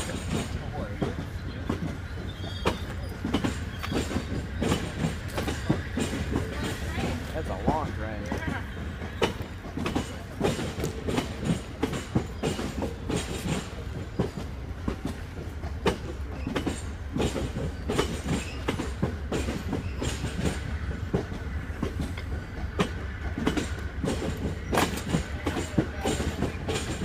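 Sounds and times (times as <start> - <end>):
train low rumble: 0.0 - 27.0
wheels clicking over rail joints: 0.0 - 27.0.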